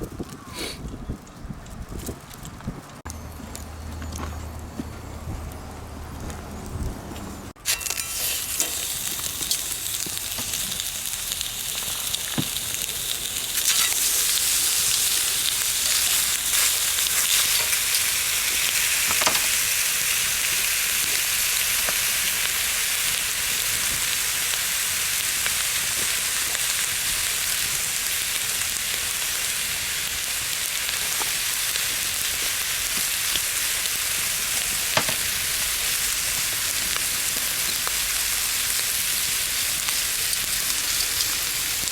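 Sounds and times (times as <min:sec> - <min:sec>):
bacon sizzling in a pan: 0:07.6 - 0:41.9.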